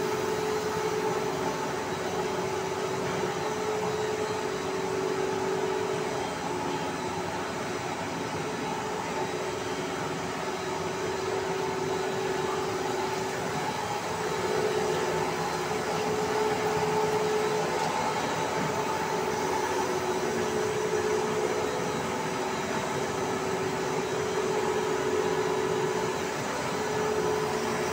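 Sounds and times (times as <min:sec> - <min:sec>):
machine hum and whirr: 0:00.0 - 0:27.9.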